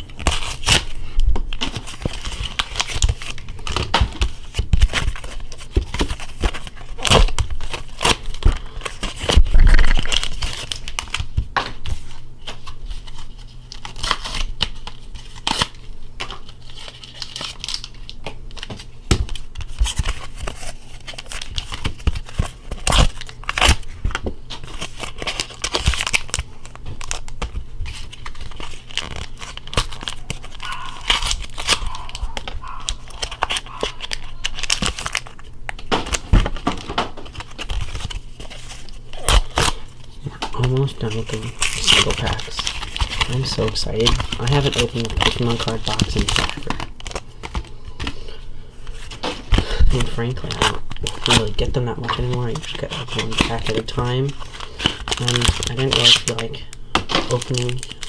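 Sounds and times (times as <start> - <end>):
card packs tearing open: 0.0 - 58.0
foil wrappers crinkling: 0.0 - 58.0.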